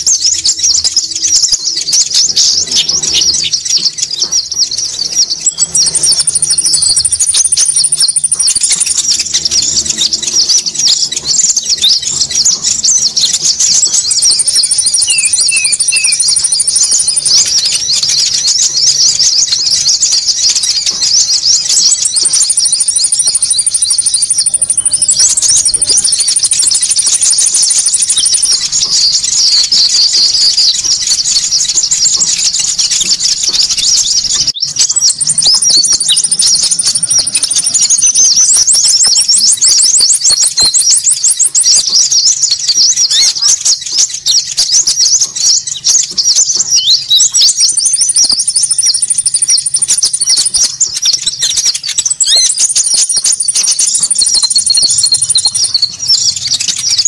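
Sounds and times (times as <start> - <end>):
songbirds chattering: 0.0 - 57.0
thin very high bird trill: 0.0 - 57.0.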